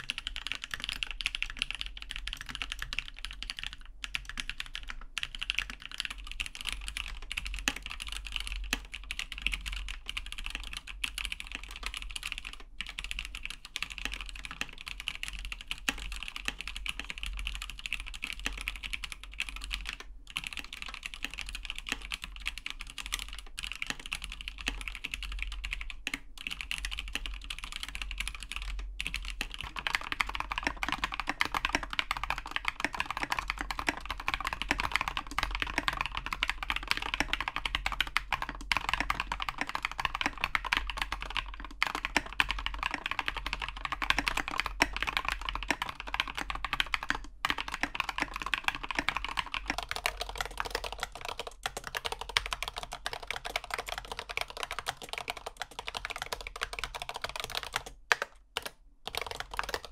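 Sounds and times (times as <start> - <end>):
typing on mechanical keyboard: 0.0 - 59.9.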